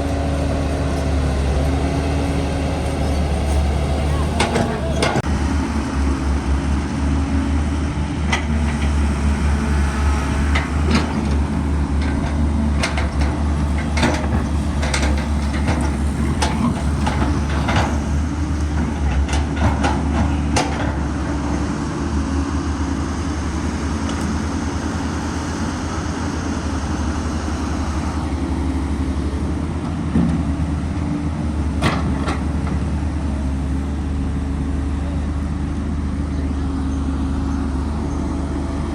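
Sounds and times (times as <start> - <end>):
diesel machine engine droning: 0.0 - 38.9.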